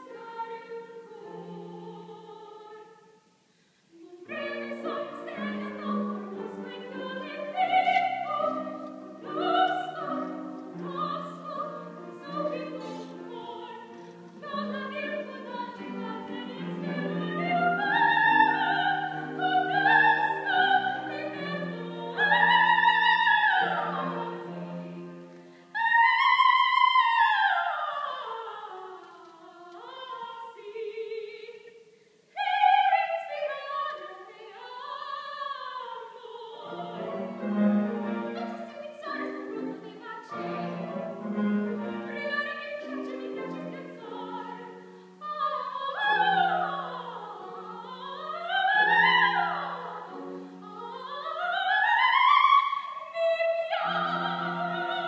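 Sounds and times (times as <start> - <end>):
woman singing operatic aria: 0.0 - 55.0.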